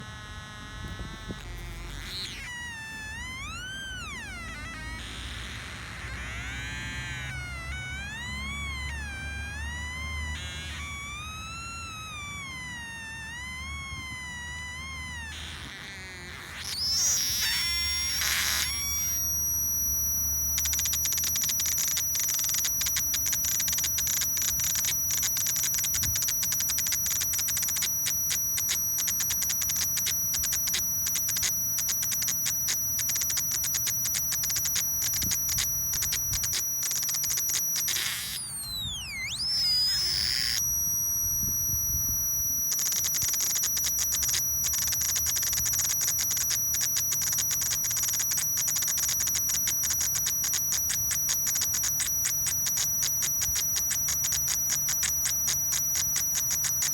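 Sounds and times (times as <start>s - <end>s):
electronic cicada buzzing: 0.0s - 56.9s
swooping electronic tone: 0.0s - 56.9s.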